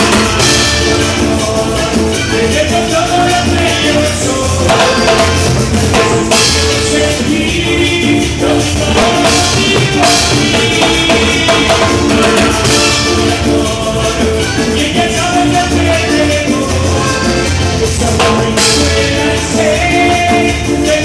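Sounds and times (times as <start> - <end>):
latin dance band playing: 0.0 - 21.0.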